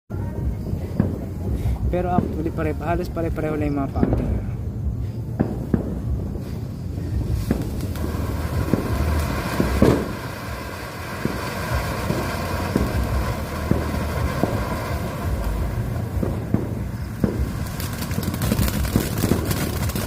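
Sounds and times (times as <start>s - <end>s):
firework fountain hissing sparks: 0.3s - 20.0s
firework pops: 0.8s - 4.5s, 5.3s - 20.0s.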